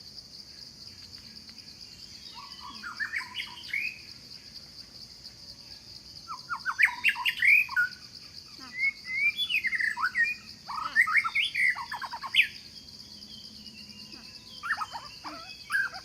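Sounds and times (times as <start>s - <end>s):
high-pitched insect drone: 0.0s - 16.0s
birds chirping: 0.8s - 5.0s, 5.6s - 16.0s.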